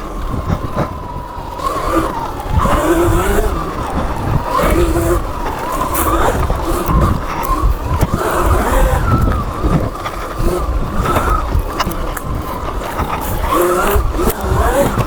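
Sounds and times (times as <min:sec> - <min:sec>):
electric dirt bike motor whining: 0:00.0 - 0:15.0.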